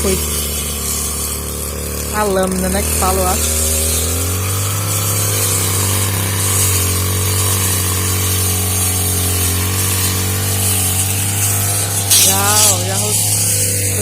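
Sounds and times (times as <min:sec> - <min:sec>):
brush cutter engine running: 0:00.0 - 0:14.0.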